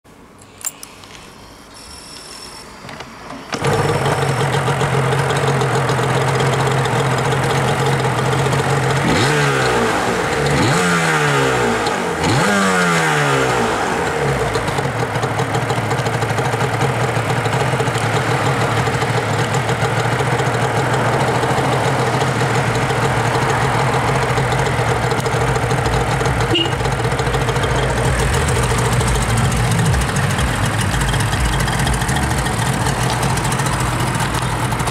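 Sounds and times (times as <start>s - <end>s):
motorcycle engine starting and idling: 1.9s - 34.9s
motorcycle throttle blips: 2.0s - 12.5s, 14.4s - 34.9s.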